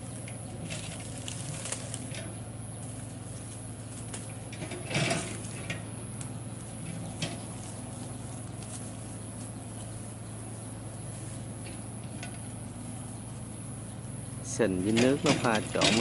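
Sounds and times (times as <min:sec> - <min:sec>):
machine engine humming: 0:00.0 - 0:16.0.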